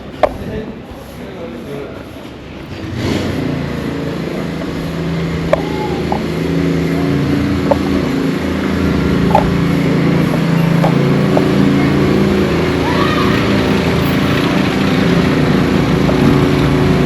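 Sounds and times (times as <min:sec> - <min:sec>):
vehicle engine running: 0:01.7 - 0:17.0.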